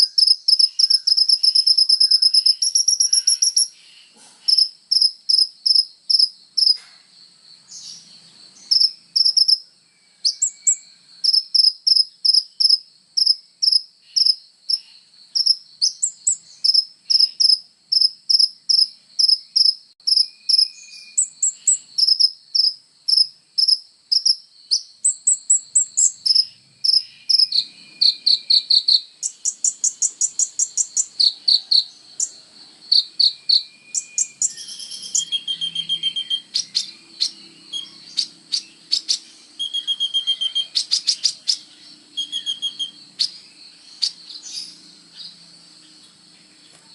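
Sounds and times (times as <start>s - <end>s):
bird chirping and trilling: 0.0s - 6.8s, 7.6s - 46.6s.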